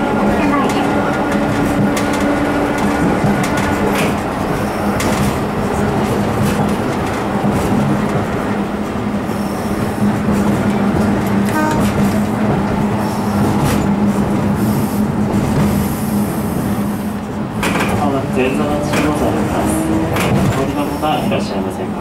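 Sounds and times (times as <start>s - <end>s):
rumble of wheels: 0.0s - 22.0s
streetcar motor hum: 0.0s - 22.0s
wheels clacking on rails: 0.0s - 22.0s.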